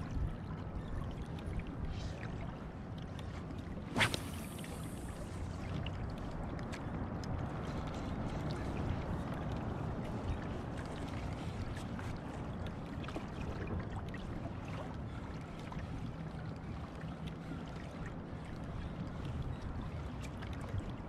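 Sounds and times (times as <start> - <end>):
water lapping against hull: 0.0 - 21.0.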